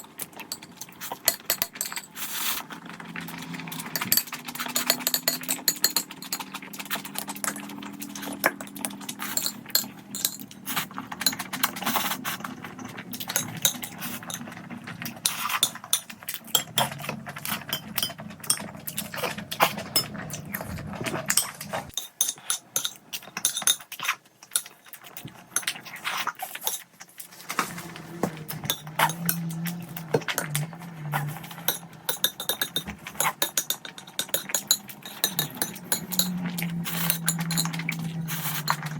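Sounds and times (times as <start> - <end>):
wet chewing and slurping: 0.0 - 22.0, 22.9 - 38.9
utensils clinking on dishes: 0.0 - 38.9.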